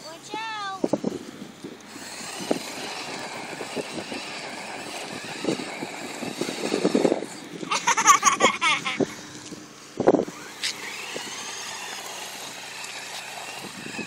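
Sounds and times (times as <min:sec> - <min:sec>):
electric motor whine: 0:00.8 - 0:14.0
tyres scrubbing on concrete: 0:01.8 - 0:09.6, 0:10.2 - 0:14.0.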